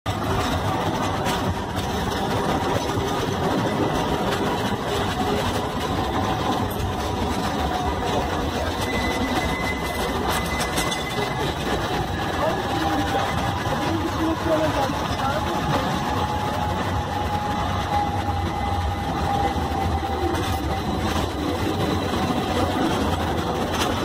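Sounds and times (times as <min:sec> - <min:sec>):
trams rumbling on rails: 0:00.0 - 0:24.0
traffic noise: 0:00.1 - 0:24.0.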